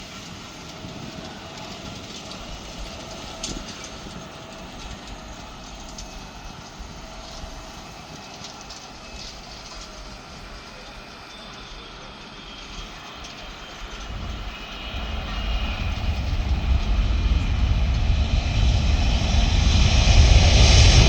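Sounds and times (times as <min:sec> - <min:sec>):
distant jet engines rumbling: 0:00.0 - 0:21.0.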